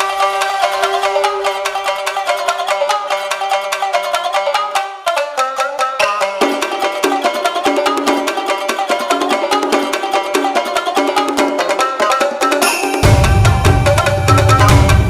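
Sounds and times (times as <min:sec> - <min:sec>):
upbeat plucked-string music: 0:00.0 - 0:15.0.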